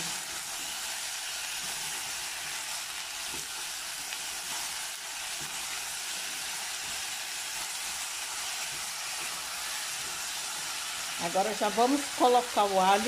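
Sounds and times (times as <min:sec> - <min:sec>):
spatula stirring and scraping: 0:00.0 - 0:11.2
sausage sizzling in a pot: 0:00.0 - 0:13.0.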